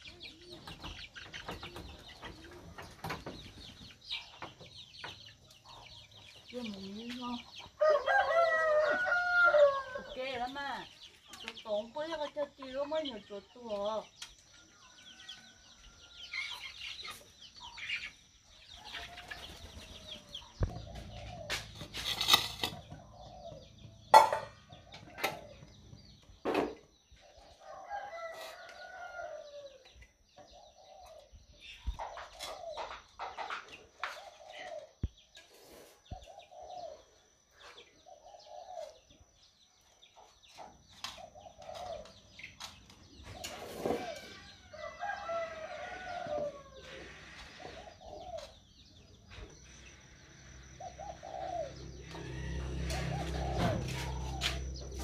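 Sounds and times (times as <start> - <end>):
chickens clucking: 0.0 - 50.0, 50.6 - 55.0.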